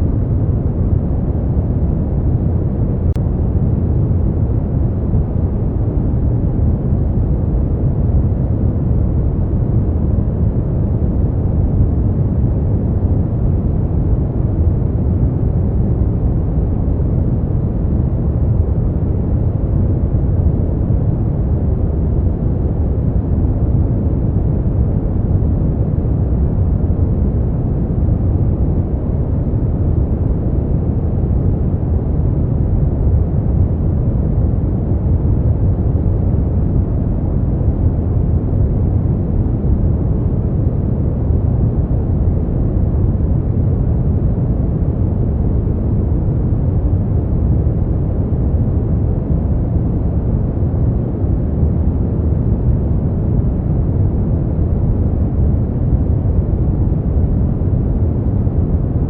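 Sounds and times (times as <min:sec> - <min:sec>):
deep rumbling brown noise: 0:00.0 - 0:59.0.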